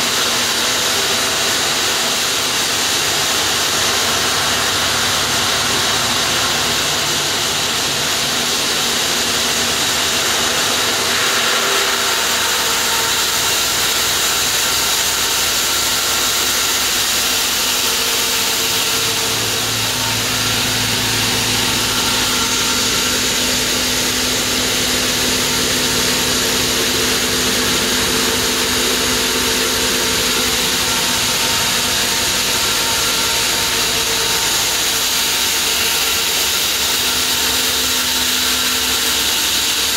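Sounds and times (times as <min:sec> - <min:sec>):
steady saw hum: 0:00.0 - 0:39.9.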